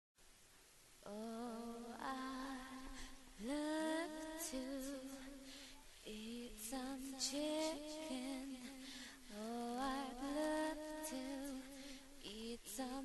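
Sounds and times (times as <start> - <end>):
person singing unaccompanied: 1.0 - 13.0.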